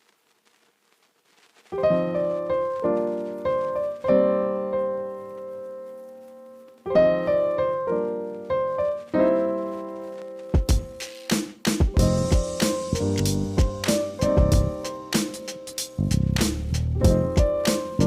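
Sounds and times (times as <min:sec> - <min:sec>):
solo piano chords: 0:01.8 - 0:11.0, 0:11.9 - 0:16.2, 0:17.0 - 0:18.0.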